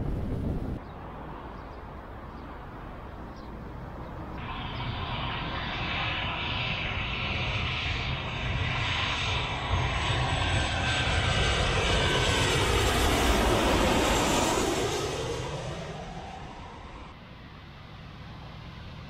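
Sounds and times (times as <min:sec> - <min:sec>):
jet airliner passing low: 0:00.0 - 0:19.0.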